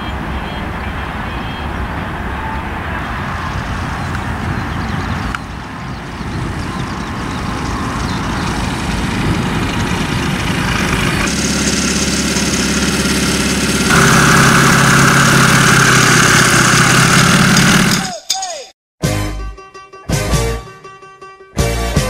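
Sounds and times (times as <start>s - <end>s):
light aircraft engine and propeller: 0.0s - 18.0s.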